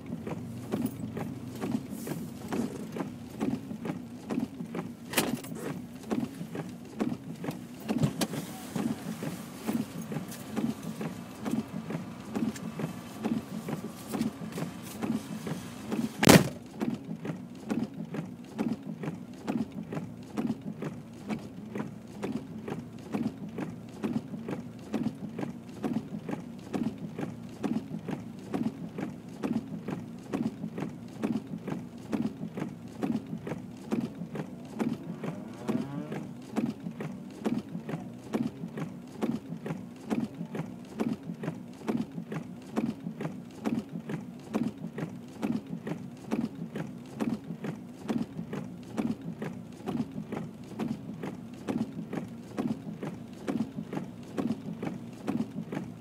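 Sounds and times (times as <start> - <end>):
rhythmic mechanical sound: 0.0 - 56.0.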